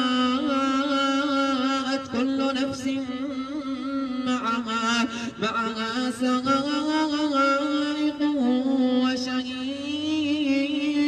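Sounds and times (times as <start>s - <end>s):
man chanting through loudspeaker: 0.0s - 11.0s.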